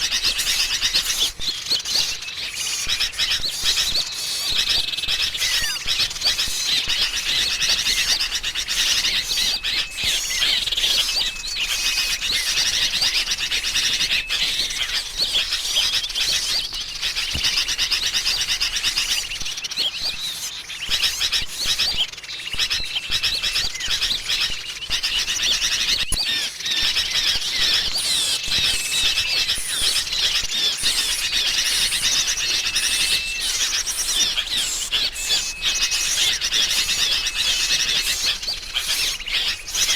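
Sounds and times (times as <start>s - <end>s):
bulbuls chattering alarm calls: 0.0s - 39.9s
small songbirds chirping: 0.0s - 39.9s.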